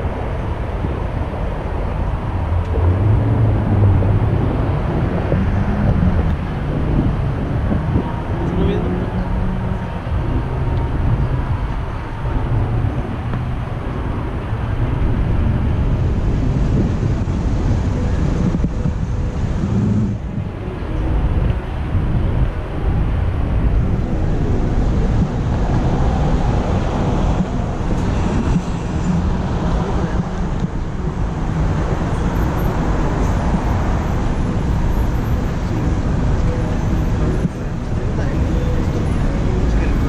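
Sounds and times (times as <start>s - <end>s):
road and traffic noise: 0.0s - 40.0s
wind noise on microphone: 0.0s - 40.0s.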